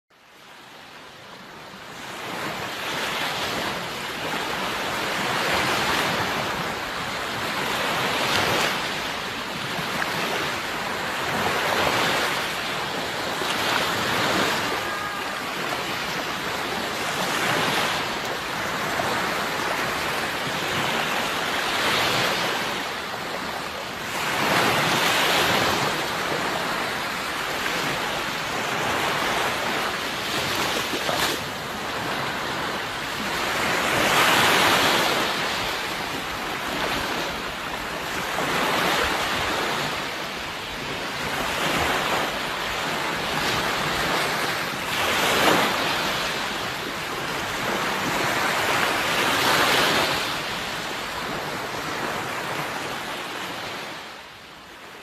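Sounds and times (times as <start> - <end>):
sea waves breaking: 0.2 - 55.0.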